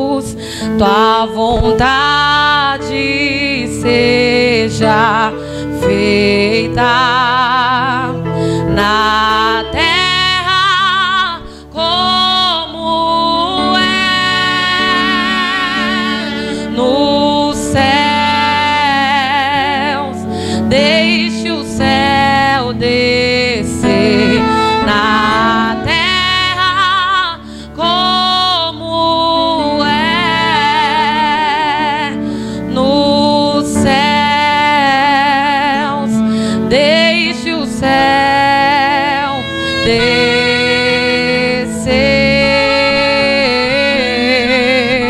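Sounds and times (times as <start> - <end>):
instrumental accompaniment: 0.0 - 45.0
woman singing worship song: 0.0 - 45.0.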